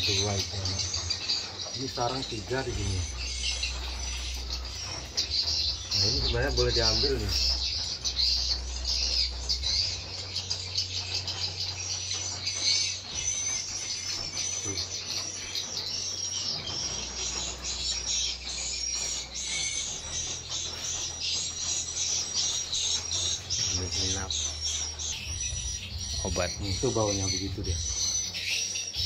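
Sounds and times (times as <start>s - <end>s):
swiftlets twittering: 0.0s - 29.0s.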